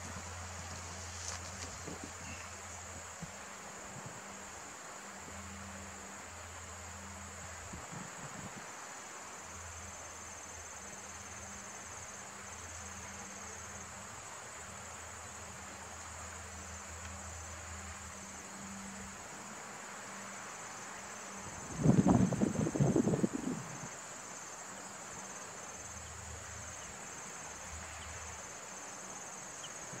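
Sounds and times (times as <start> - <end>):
crickets chirring: 0.0 - 30.0.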